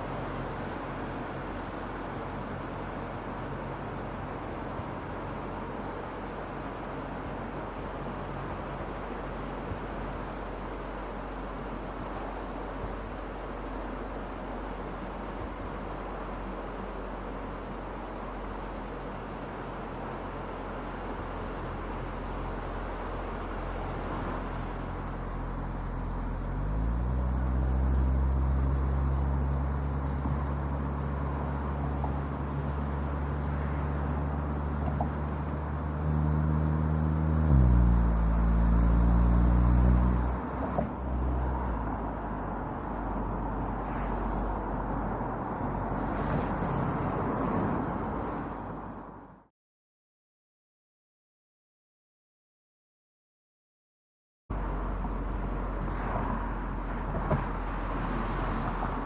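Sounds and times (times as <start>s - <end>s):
road noise of car driving: 0.0s - 49.5s, 54.5s - 59.0s.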